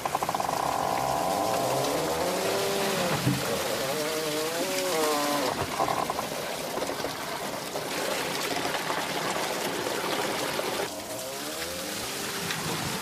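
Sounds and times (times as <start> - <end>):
water pouring and trickling: 0.0 - 13.0.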